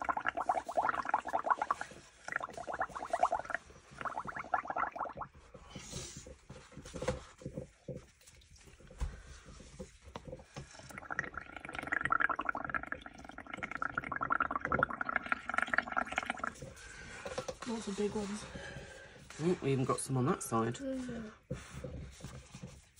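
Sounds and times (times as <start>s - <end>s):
bubbling through a straw: 0.0s - 19.4s.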